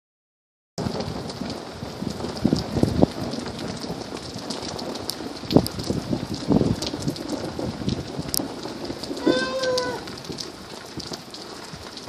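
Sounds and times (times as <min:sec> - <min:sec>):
steady rain falling: 0:00.8 - 0:12.0.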